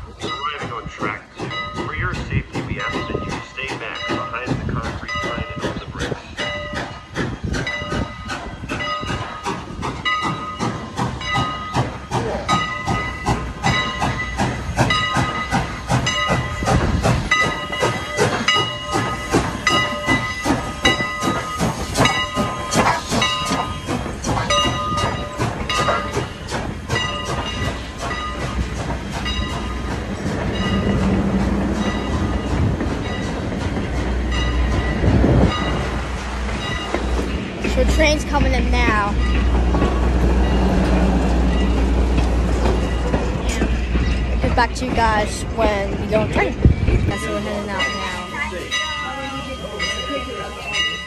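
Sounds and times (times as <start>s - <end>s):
locomotive bell ringing: 0.0s - 51.0s.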